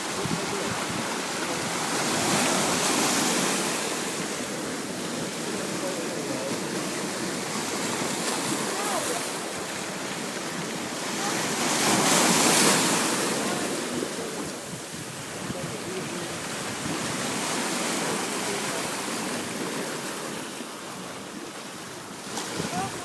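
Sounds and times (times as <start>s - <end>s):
sea waves washing ashore: 0.0s - 23.0s
wave breaking: 0.0s - 23.0s.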